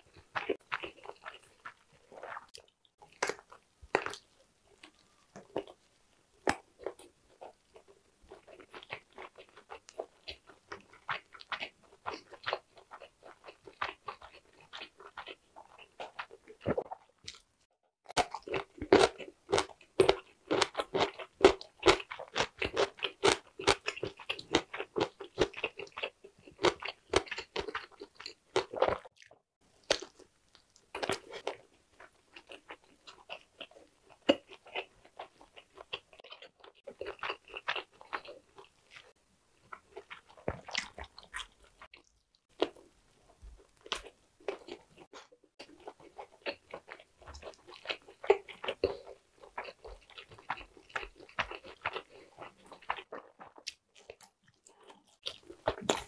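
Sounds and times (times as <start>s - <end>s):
close chewing of sausage: 0.0s - 56.0s.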